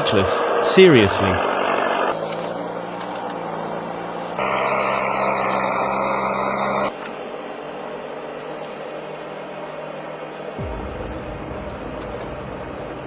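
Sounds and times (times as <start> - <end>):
heavy machine engine running: 1.0 - 8.4, 10.0 - 13.0.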